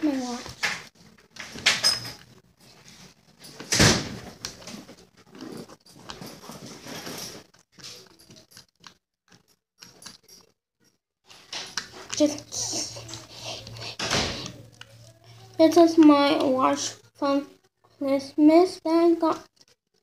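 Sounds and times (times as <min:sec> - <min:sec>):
rustling and small clicks: 0:00.4 - 0:17.0, 0:19.2 - 0:20.0.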